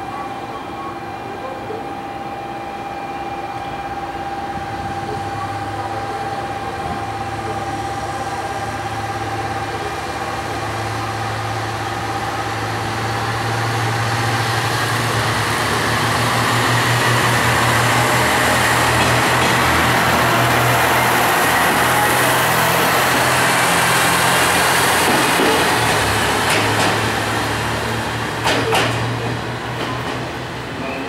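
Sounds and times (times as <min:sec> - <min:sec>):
diesel railcar engine humming: 0:00.0 - 0:31.0.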